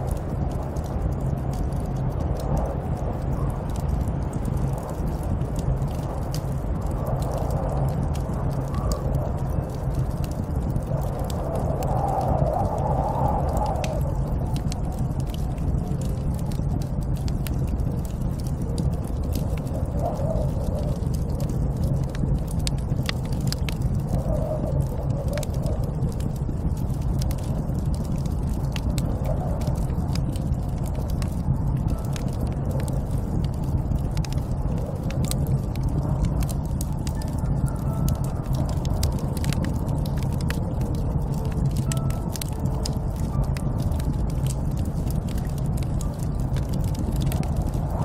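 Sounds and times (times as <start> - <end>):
sharp crackles: 0.0 - 48.0
snowstorm wind rumble: 0.0 - 48.0.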